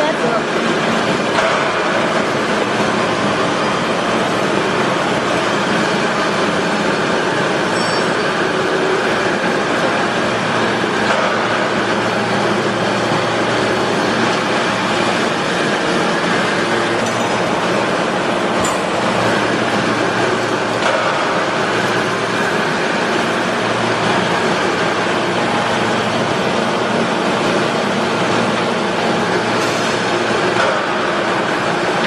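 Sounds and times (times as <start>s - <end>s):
hydraulic press motor and pump: 0.0s - 32.0s.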